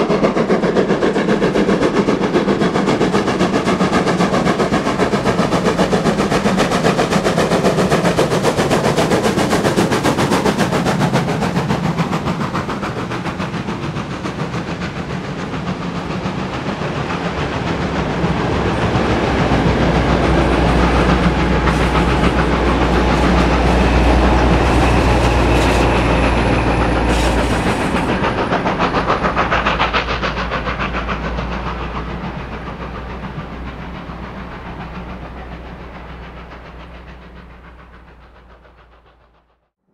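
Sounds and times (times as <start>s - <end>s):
steam locomotive exhaust beats: 0.0s - 39.7s
wagons clacking over rail joints: 0.5s - 37.7s.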